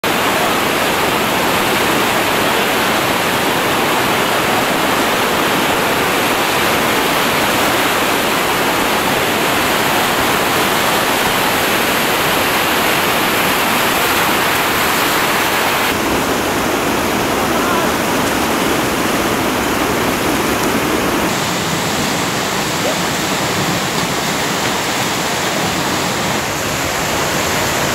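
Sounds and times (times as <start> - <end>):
river rapids rushing: 0.0 - 27.9.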